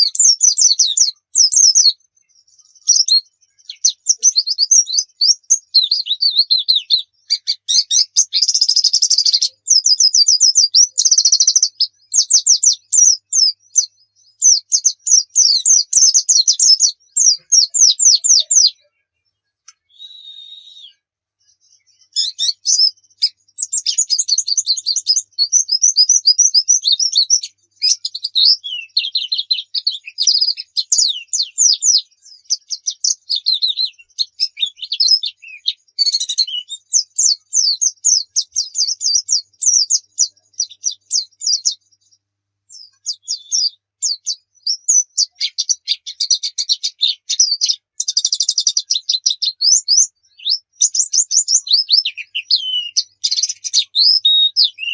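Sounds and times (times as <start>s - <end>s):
bird singing high chirps and trills: 0.0s - 54.9s.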